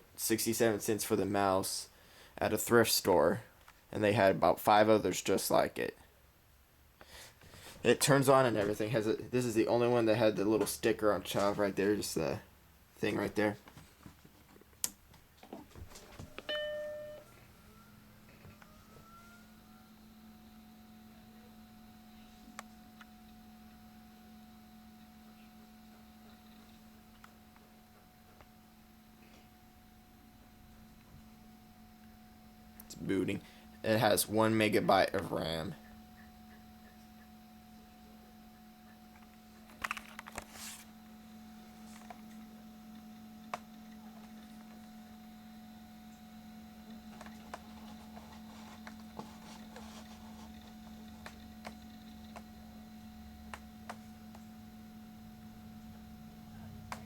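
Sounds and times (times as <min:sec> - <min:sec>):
faint rising crt whine: 0:00.0 - 0:57.0
fan hum: 0:00.0 - 0:57.0.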